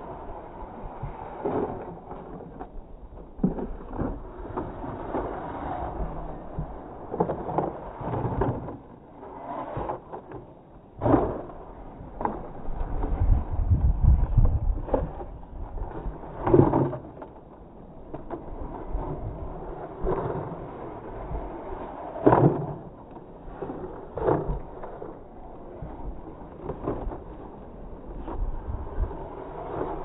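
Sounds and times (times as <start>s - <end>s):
wind on microphone: 0.0s - 10.1s, 10.9s - 17.2s, 17.8s - 30.0s
rc buggy scrabbling on sand: 0.0s - 30.0s.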